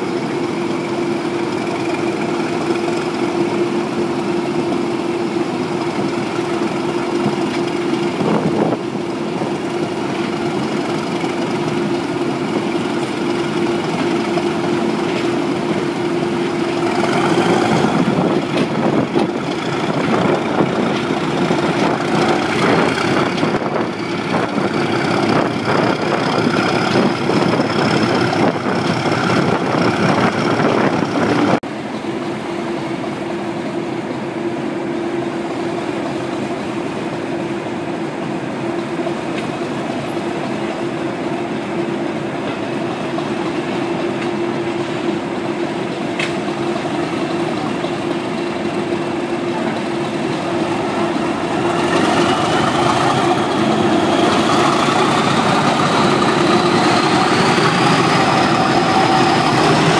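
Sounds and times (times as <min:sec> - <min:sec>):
diesel locomotive engine working: 0:00.0 - 0:59.9
high whine: 0:00.0 - 0:59.9.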